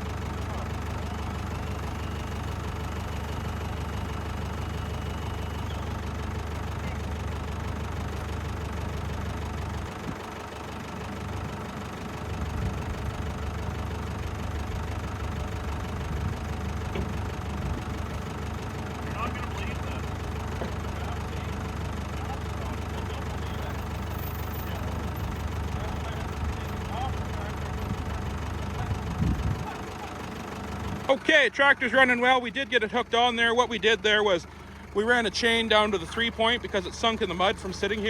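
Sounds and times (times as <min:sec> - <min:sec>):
tractor engine idling: 0:00.0 - 0:38.0.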